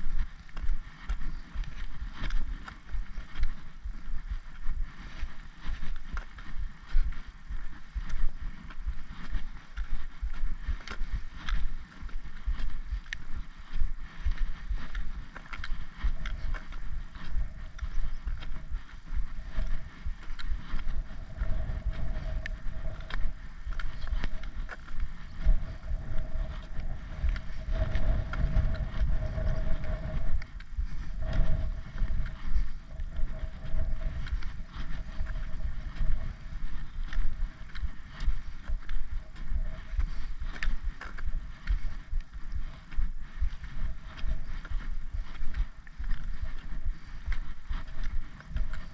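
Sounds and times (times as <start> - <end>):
footsteps on tarmac: 0.0 - 48.9
wind buffeting microphone: 0.0 - 48.9
steady hum: 6.6 - 48.9.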